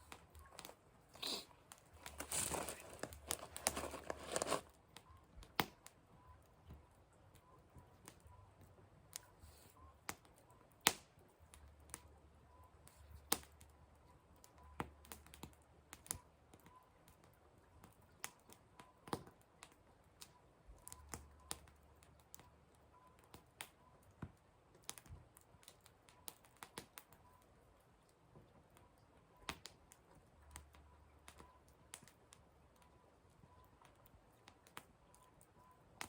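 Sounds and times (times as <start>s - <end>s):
firewood crackling and popping: 0.0s - 6.0s, 10.0s - 12.2s, 12.8s - 22.6s, 23.2s - 36.0s.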